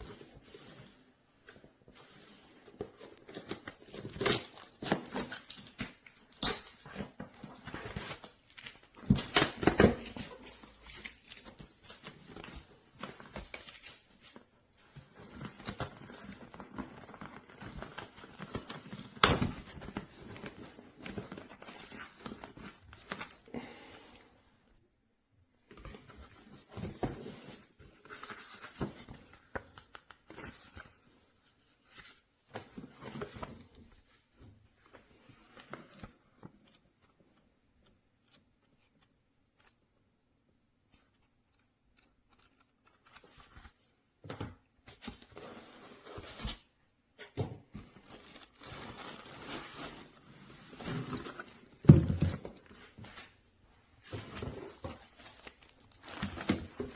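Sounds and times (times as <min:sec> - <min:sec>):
handling noise rustling and crinkling: 0:00.0 - 0:24.4, 0:25.6 - 0:56.9.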